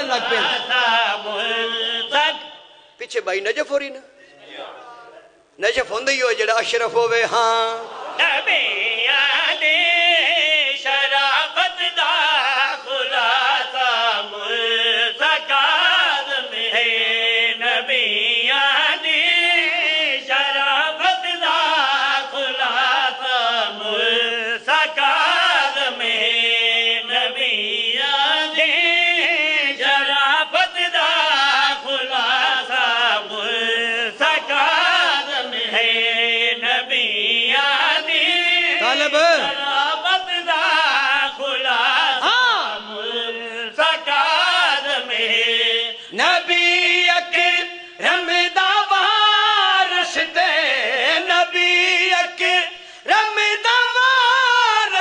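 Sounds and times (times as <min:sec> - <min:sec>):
man chanting melodically: 0:00.0 - 0:55.0.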